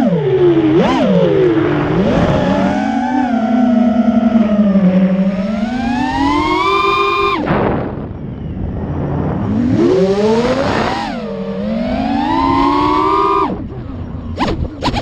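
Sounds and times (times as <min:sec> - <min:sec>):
electric motor whine: 0:00.0 - 0:07.5, 0:08.8 - 0:13.7.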